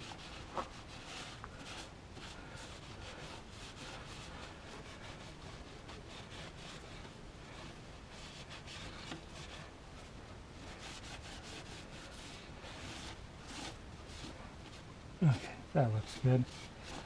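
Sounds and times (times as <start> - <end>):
rag rubbing engine parts: 0.0 - 17.0.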